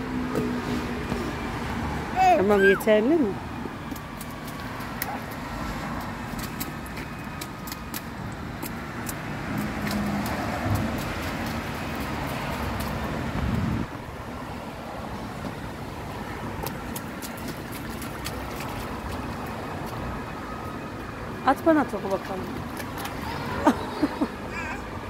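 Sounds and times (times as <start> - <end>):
boots splashing through puddle: 0.3 - 13.7, 15.2 - 20.7, 21.9 - 24.3.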